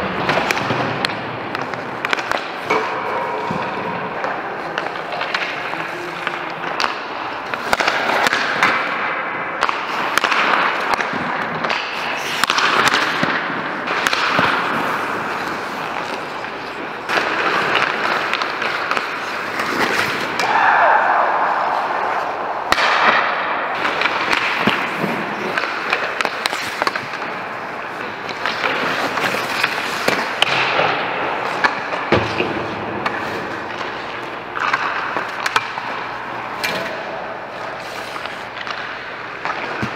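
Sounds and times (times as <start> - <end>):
skate blades scraping ice: 0.0 - 20.6, 21.6 - 39.9
stick and puck clacks: 0.0 - 39.9.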